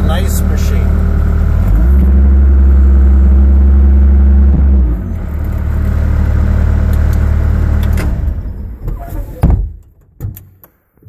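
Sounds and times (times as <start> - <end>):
diesel engine running: 0.0 - 9.4.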